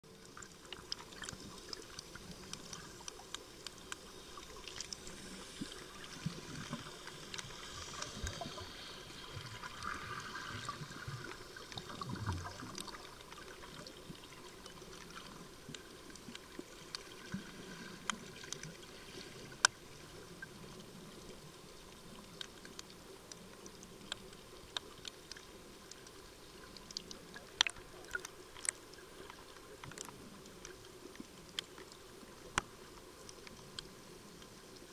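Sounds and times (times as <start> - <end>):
underwater water noise: 0.0 - 34.9.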